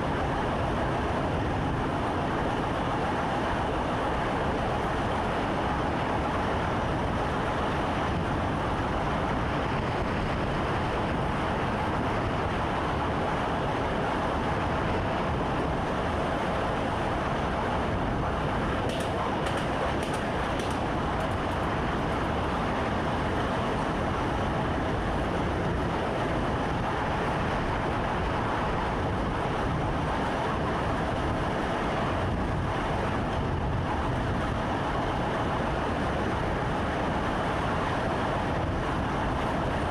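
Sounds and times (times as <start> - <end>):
faint constant hum: 0.0 - 39.9
train running rumble: 0.0 - 39.9.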